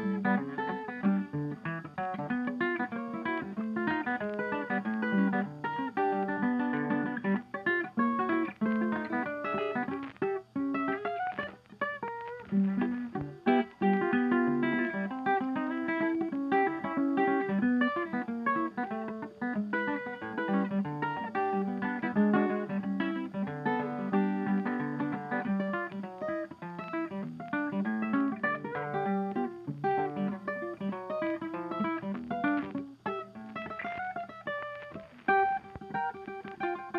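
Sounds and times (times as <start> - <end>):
plucked acoustic guitar: 0.0 - 36.9.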